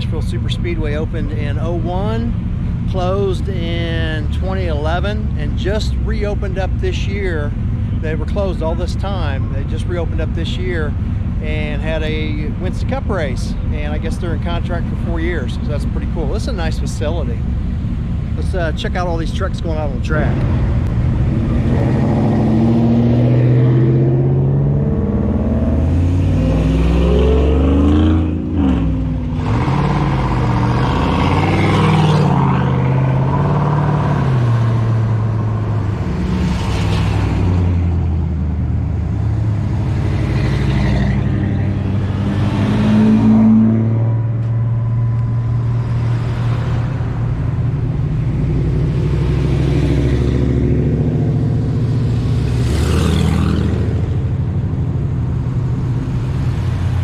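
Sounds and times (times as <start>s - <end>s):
pickup truck engines rumbling past: 0.0s - 57.0s.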